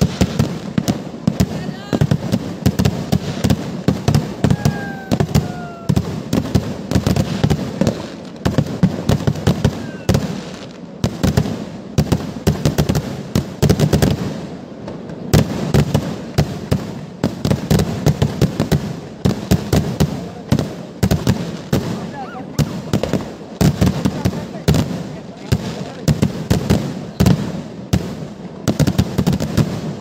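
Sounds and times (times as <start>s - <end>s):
fireworks cracking and banging: 0.0s - 30.0s.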